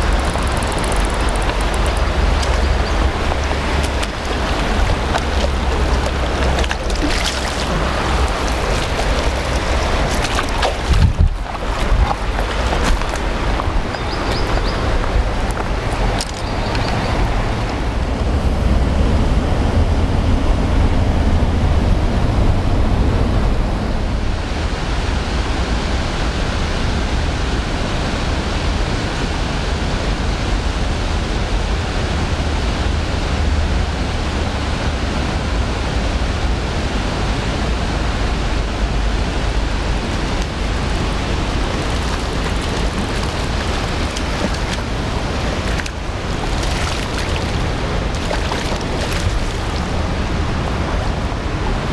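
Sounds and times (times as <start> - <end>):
river water rushing over stones: 0.0 - 19.1, 24.0 - 51.9
wind rumble on microphone: 0.0 - 51.9.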